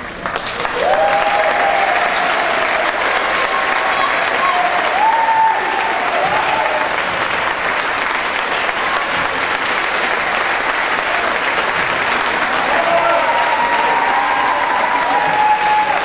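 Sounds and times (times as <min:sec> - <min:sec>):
spectators clapping and cheering: 0:00.0 - 0:16.0.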